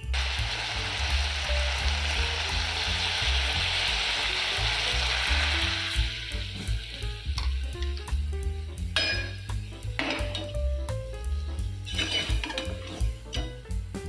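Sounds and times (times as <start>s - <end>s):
background music: 0.0s - 14.0s
food sizzling in a metal pot: 0.0s - 14.0s.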